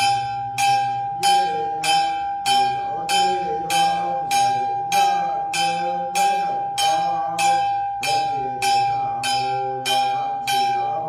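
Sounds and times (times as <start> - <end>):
person chanting softly: 0.0 - 11.0
small bell ringing: 0.0 - 11.0.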